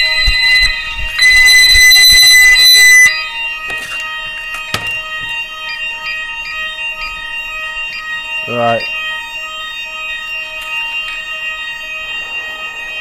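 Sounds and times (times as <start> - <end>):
fire alarm ringing: 0.0 - 13.0.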